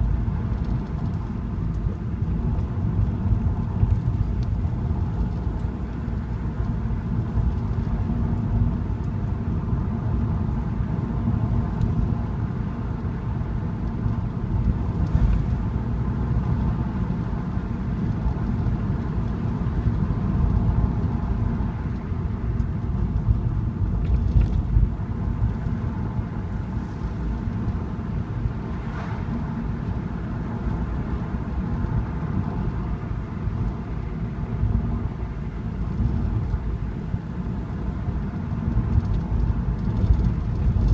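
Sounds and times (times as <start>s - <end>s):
car interior road rumble: 0.0s - 40.9s.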